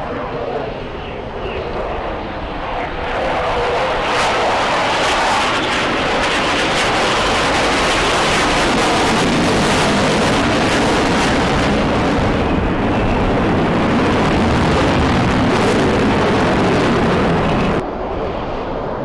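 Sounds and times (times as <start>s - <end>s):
loud rushing jet noise: 0.0s - 19.0s.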